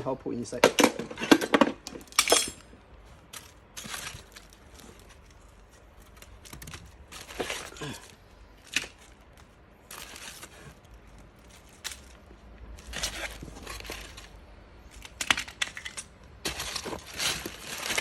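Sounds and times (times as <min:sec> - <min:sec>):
light clinks and knocks: 0:00.6 - 0:18.0
packaging rustling: 0:03.2 - 0:18.0.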